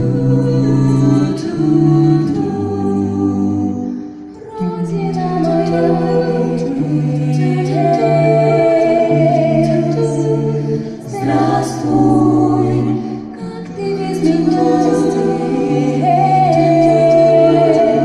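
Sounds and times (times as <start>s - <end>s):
vocal ensemble singing a cappella: 0.0s - 18.0s.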